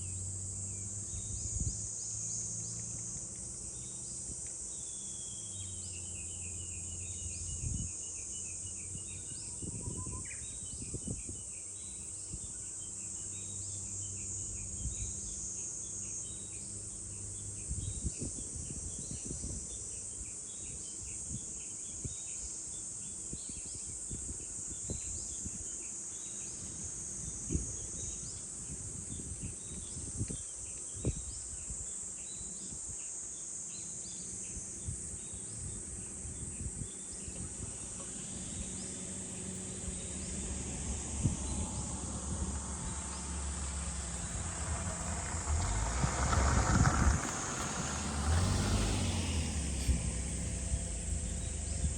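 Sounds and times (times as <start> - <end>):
cicadas droning: 0.0 - 51.9.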